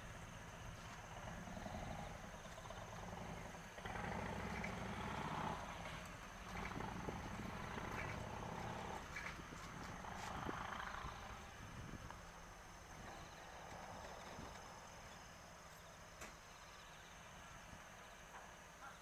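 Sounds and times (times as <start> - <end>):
distant light aircraft droning: 0.0 - 19.0.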